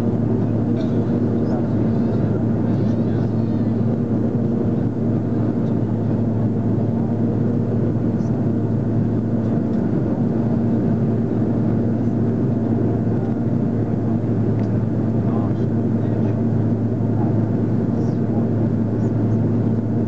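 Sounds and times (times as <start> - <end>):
cabin airflow rumble: 0.0 - 20.0
jet engine drone: 0.0 - 20.0.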